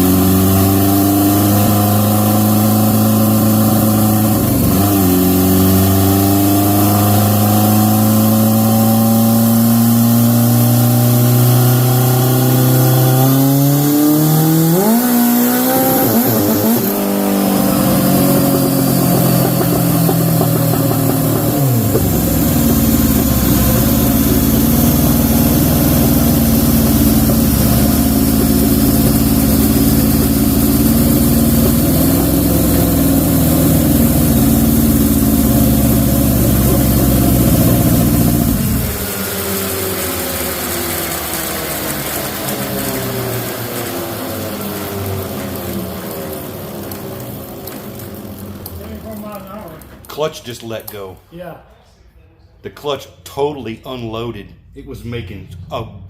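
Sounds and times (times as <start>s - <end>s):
motorcycle engine revving hard: 0.0s - 48.0s.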